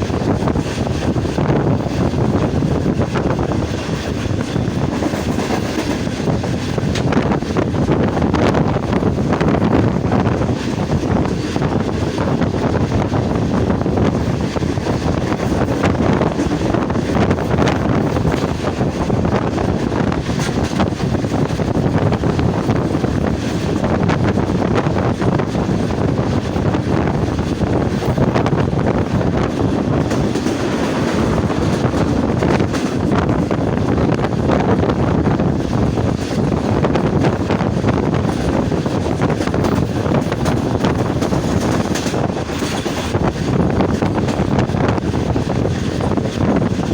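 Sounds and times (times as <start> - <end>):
clickety-clack over rail joints: 0.0 - 46.9
train wheels rumbling on rails: 0.0 - 46.9.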